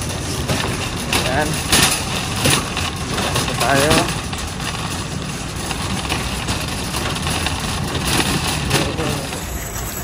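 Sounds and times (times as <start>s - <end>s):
shopping cart rolling on pavement: 0.0s - 10.0s.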